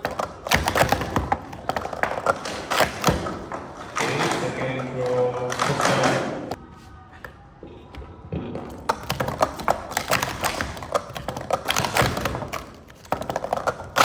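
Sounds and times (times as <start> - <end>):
plastic cups clacking: 0.0 - 6.6, 7.3 - 14.0.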